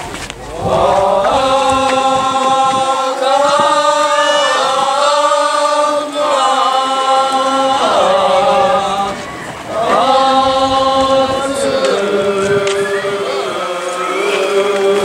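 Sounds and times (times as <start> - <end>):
group chanting: 0.5 - 15.0.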